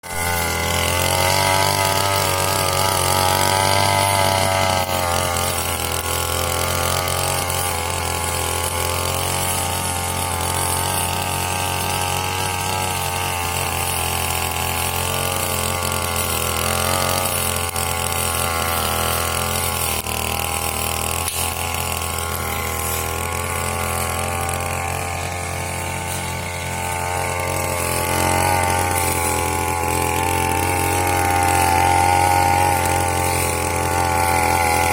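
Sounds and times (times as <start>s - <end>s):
brush cutter engine running: 0.0s - 34.9s.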